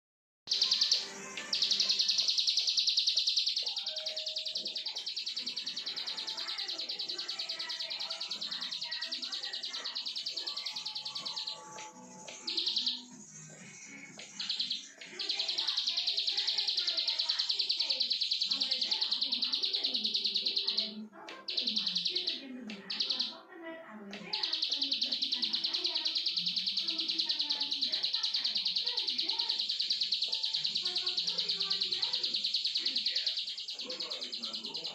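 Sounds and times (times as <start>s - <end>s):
bird singing buzzing trill: 0.5s - 23.4s, 24.3s - 34.9s.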